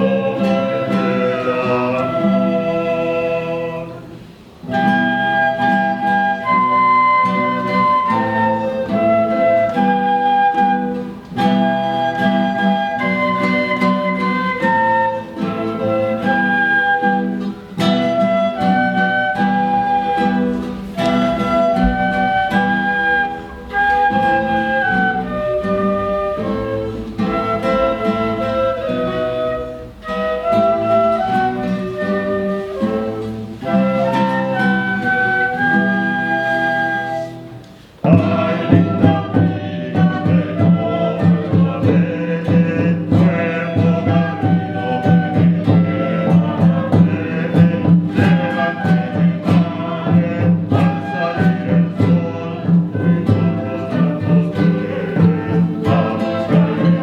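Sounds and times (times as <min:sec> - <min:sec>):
early music ensemble playing: 0:00.0 - 0:57.0.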